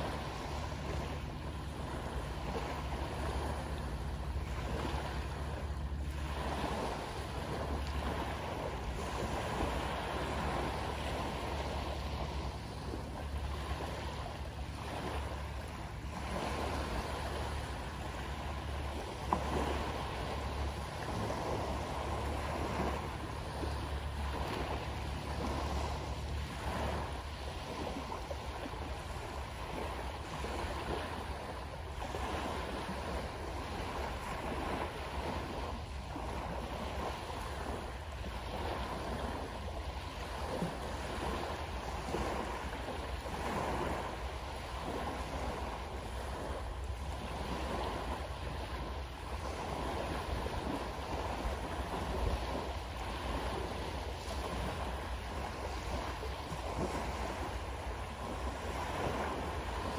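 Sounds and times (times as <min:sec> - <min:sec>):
boat engine drone: 0:00.0 - 0:59.9
small waves breaking on beach: 0:00.0 - 0:59.9.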